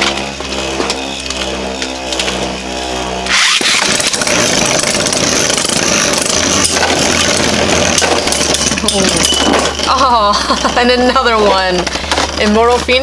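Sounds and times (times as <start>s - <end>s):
spinning tops whirring: 0.0s - 13.0s
tops clashing and rattling: 0.0s - 13.0s.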